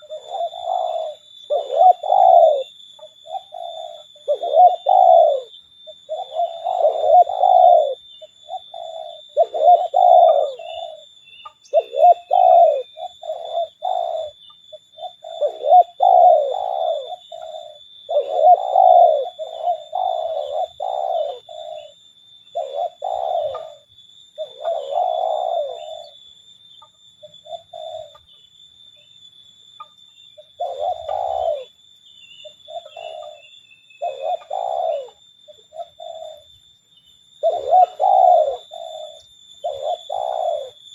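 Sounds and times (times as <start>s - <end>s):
doves cooing: 0.0s - 28.4s, 29.8s - 36.7s, 37.4s - 40.9s.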